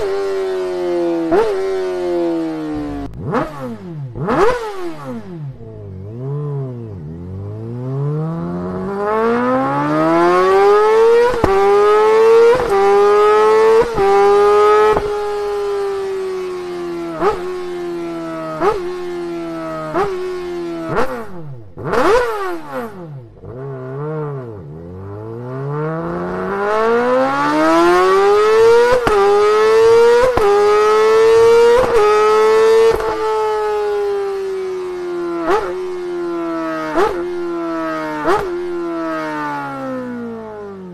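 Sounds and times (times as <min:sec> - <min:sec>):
motorcycle engine revving hard: 0:00.0 - 0:40.7.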